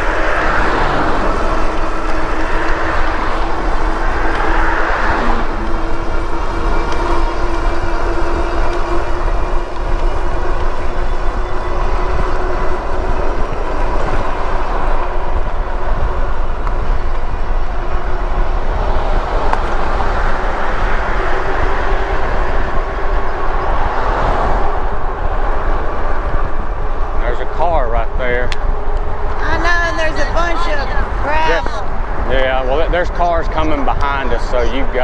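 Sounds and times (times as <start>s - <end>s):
steady whine: 0.0s - 35.0s
wind rushing over microphone: 0.0s - 35.0s.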